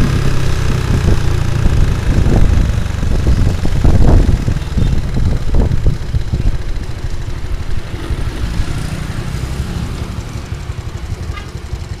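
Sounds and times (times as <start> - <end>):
motorcycle engine pulsing: 0.0 - 12.0.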